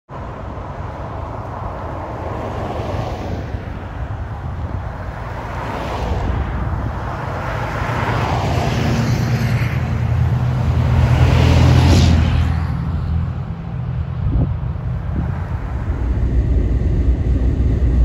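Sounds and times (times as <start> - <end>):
vehicle engines running: 0.2 - 18.0
vehicle passing close: 1.3 - 18.0.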